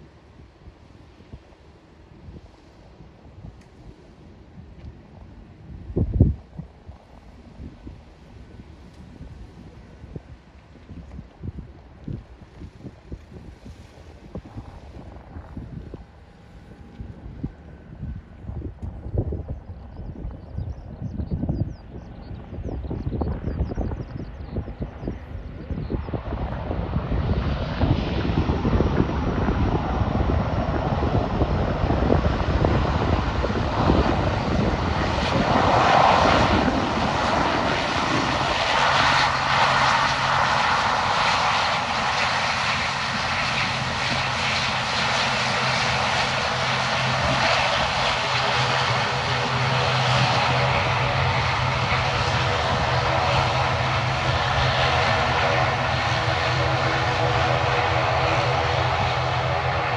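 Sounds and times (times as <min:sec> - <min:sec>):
turboprop engines droning: 0:00.0 - 0:59.9.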